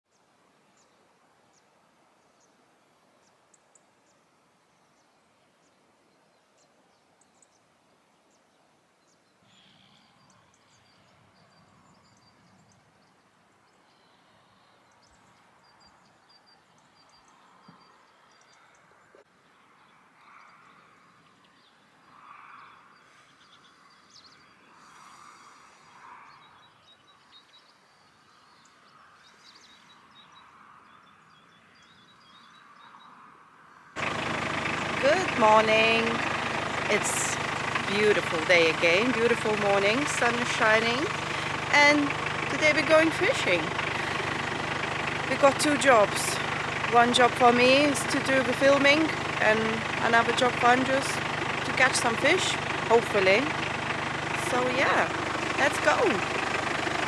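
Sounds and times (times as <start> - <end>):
faint birds chirping: 0.1 - 57.0.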